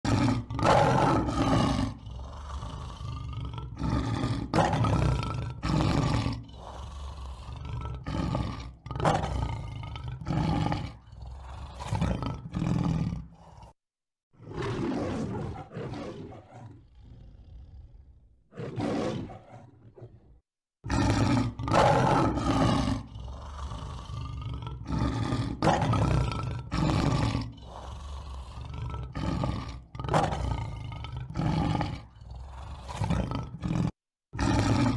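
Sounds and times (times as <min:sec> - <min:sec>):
lion roaring: 0:00.1 - 0:13.8, 0:14.4 - 0:34.9.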